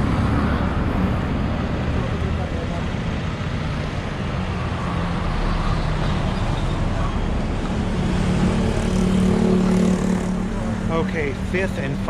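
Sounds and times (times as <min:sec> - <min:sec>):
road and traffic noise: 0:00.0 - 0:12.0
vehicle engine drone: 0:00.0 - 0:12.0.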